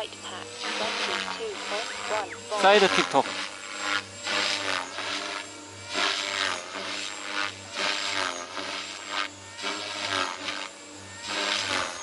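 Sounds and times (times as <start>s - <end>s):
motor hum: 0.0s - 12.0s
rotor blades whooshing: 0.0s - 12.0s.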